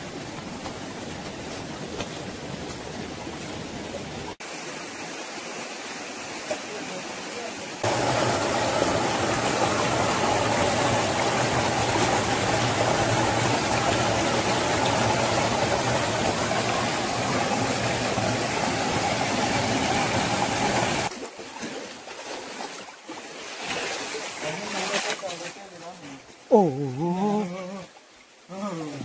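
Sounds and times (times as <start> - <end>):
faint uneven water sounds: 0.0 - 29.0
stream water rushing over boulders: 0.0 - 29.0.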